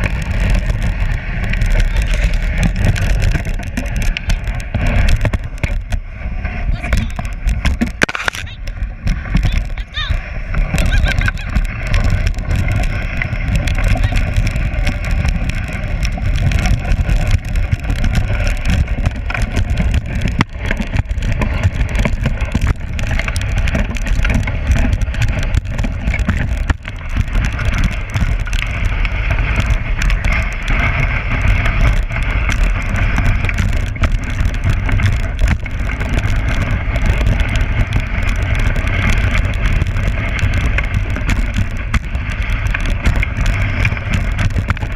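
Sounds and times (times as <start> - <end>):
sled knocking and rattling: 0.0 - 44.9
sled runners on snow: 0.0 - 44.9.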